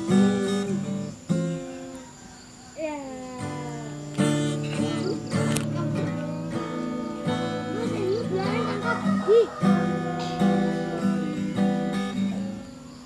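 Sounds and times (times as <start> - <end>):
acoustic guitar strumming: 0.0 - 2.1, 3.2 - 13.0.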